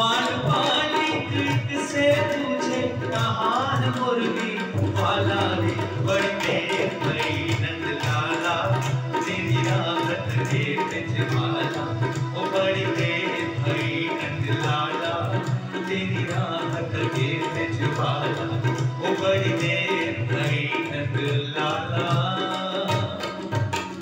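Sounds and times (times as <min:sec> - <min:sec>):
tabla playing steady rhythm: 0:00.0 - 0:24.0.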